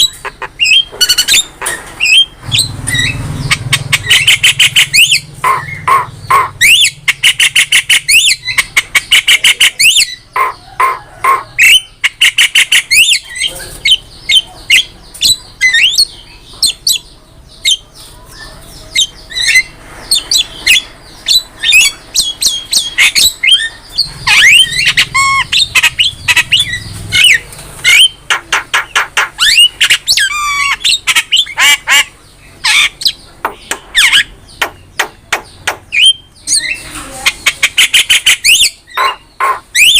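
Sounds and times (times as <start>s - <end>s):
myna bird singing: 0.0s - 39.9s.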